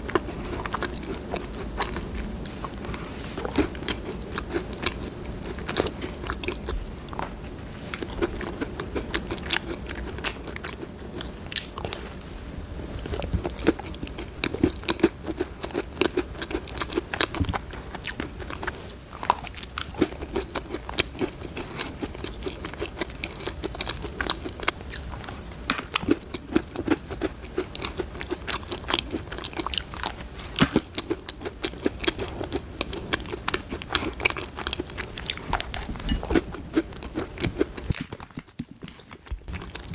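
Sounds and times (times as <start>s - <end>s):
cookie crunching: 0.0s - 12.2s, 13.0s - 39.9s.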